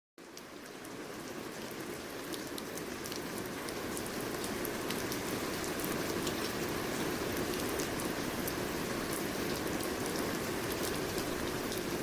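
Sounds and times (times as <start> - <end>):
rain falling: 0.2 - 12.0.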